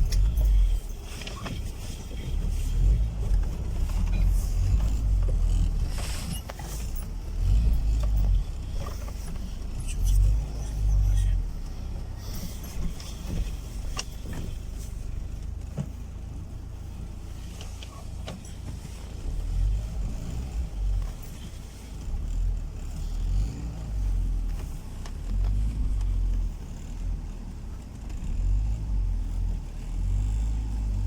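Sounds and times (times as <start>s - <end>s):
car engine and tyres rumbling: 0.0s - 31.0s.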